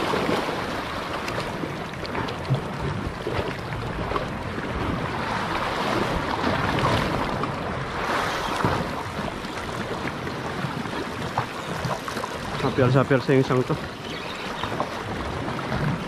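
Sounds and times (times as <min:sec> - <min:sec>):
waves washing against rocks: 0:00.0 - 0:16.0
wind buffeting microphone: 0:00.0 - 0:16.0.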